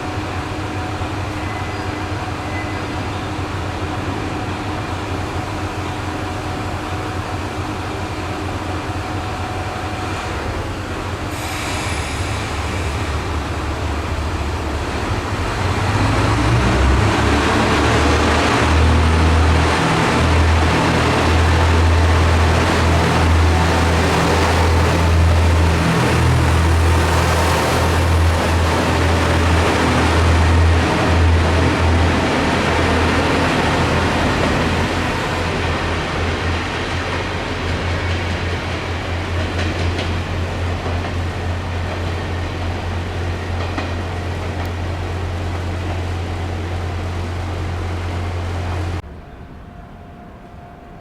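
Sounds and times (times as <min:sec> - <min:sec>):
rail and wheel noise: 0:00.0 - 0:51.0
railcar engine pulsing drone: 0:00.0 - 0:51.0.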